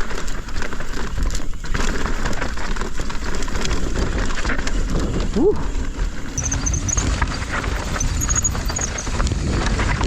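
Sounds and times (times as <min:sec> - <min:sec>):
bike clicks and rattles: 0:00.0 - 0:10.0
tyres rumbling over dirt: 0:00.0 - 0:10.0.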